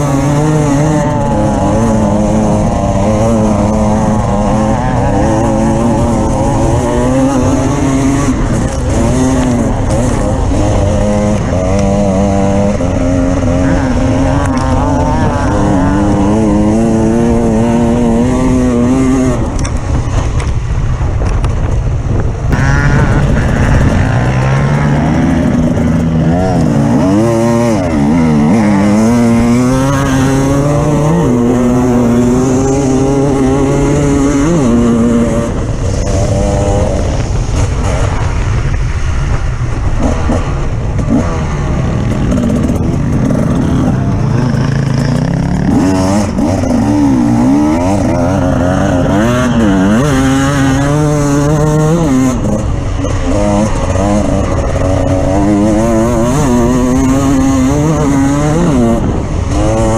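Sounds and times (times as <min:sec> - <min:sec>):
off-road vehicle engine revving: 0:00.0 - 0:21.7, 0:22.5 - 0:59.9.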